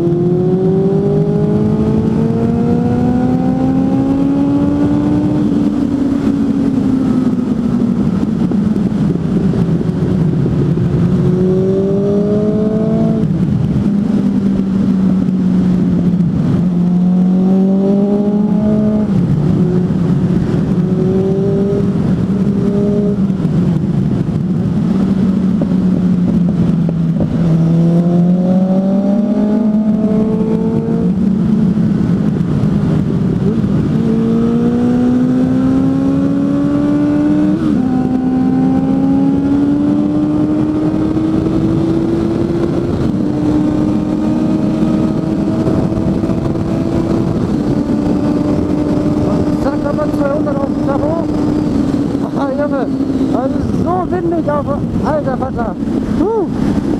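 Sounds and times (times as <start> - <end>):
motorcycle engine accelerating: 0.0 - 56.9
wind rushing: 0.0 - 56.9.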